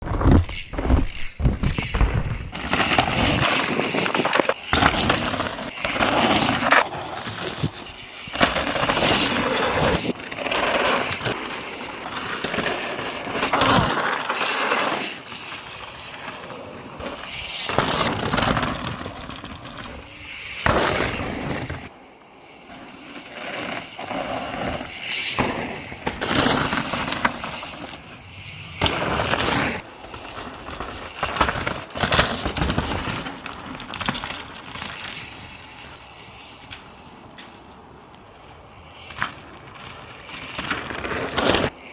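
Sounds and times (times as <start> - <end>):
bike rattling: 0.0 - 41.9
bike tyres on gravel: 0.0 - 41.9.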